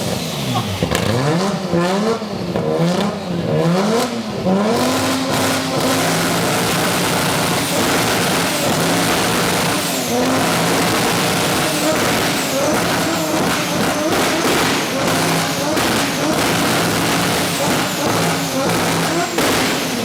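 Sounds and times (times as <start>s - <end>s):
loud engine revving: 0.0s - 20.0s.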